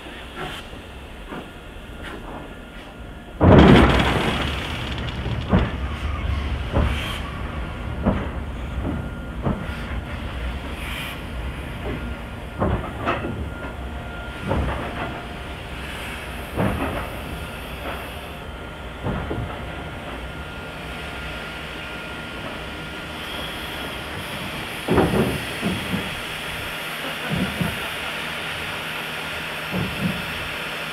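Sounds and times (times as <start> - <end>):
train rumble: 0.0 - 30.9.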